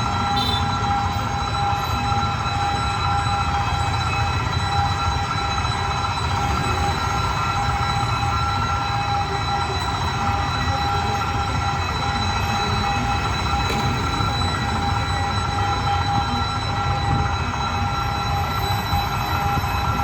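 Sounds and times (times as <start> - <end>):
high-pitched tones: 0.0 - 20.0.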